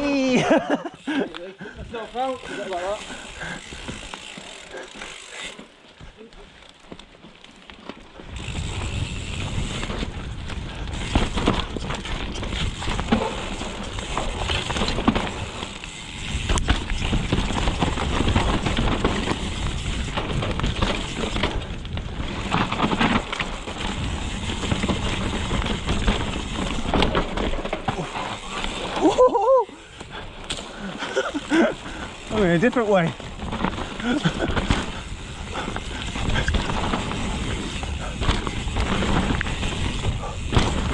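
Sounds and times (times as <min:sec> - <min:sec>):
bike knocks and rattles: 0:01.9 - 0:05.3, 0:07.8 - 0:29.2, 0:30.0 - 0:40.9
tyres rumbling over dirt: 0:08.0 - 0:40.9.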